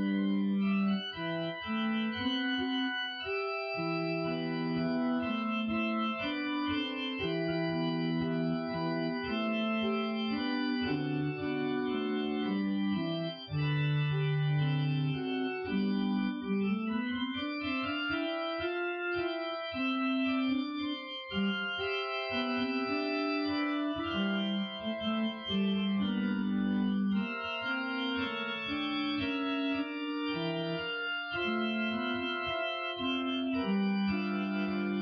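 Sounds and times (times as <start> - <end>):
organ playing slow chords: 0.0 - 35.0.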